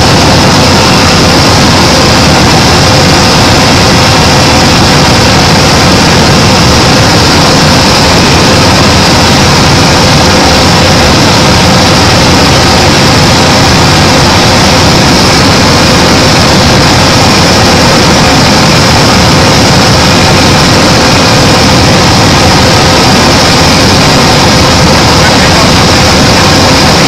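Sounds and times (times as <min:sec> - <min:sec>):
aircraft engine and air noise: 0:00.0 - 0:27.0.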